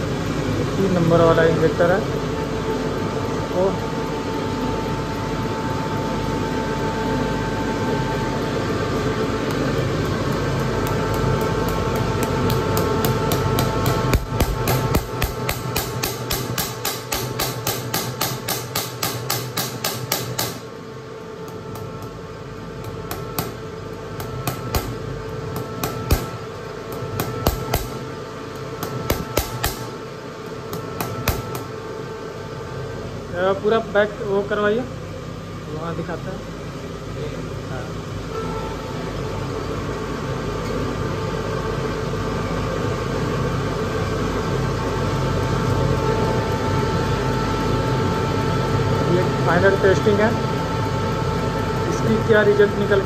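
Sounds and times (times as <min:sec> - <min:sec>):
test bench machine humming: 0:00.0 - 0:53.0
thin steady whine: 0:00.0 - 0:53.0.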